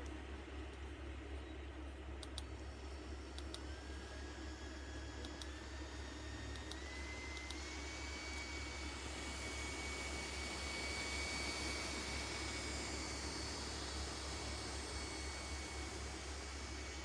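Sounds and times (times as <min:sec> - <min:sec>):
neck fan motor whirring: 0:02.2 - 0:17.0.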